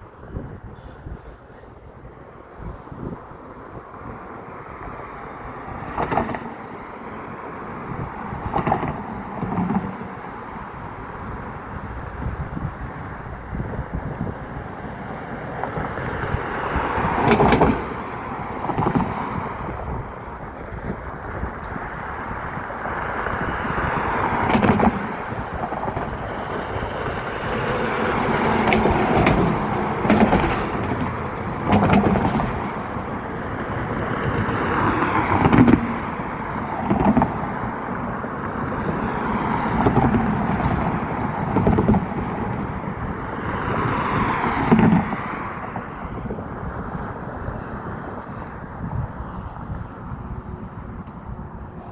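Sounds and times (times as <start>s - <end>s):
cars passing: 0.0s - 51.9s.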